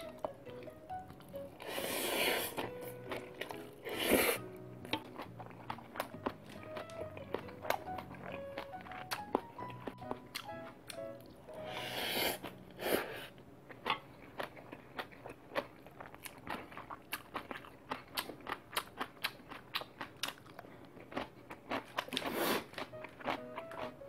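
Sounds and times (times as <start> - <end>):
crisp chewing crunches: 2.4 - 11.4, 13.7 - 24.0.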